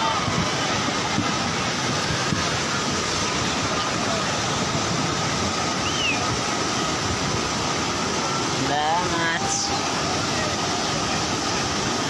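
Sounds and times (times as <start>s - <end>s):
river rushing in flood: 0.0s - 12.0s.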